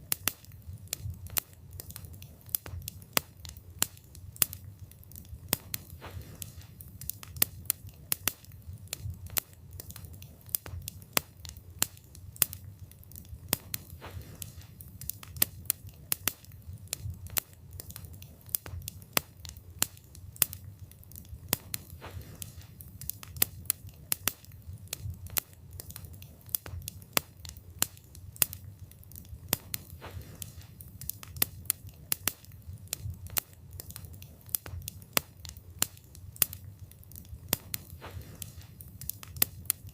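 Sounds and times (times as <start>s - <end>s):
low fire rumble: 0.0s - 39.9s
wood crackling and popping: 0.0s - 39.9s.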